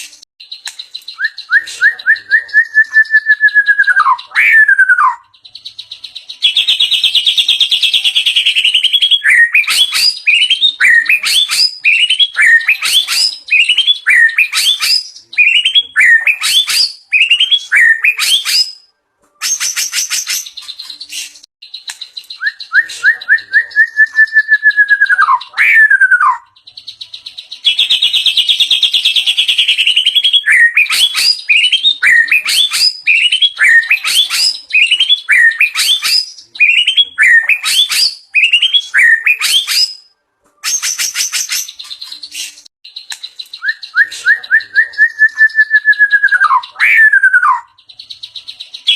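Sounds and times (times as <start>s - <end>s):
bird singing whistled song: 0.0s - 48.9s.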